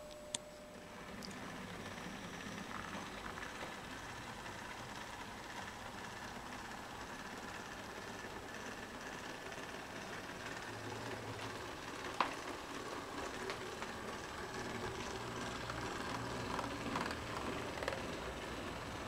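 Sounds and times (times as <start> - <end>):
model train running: 0.8 - 19.0.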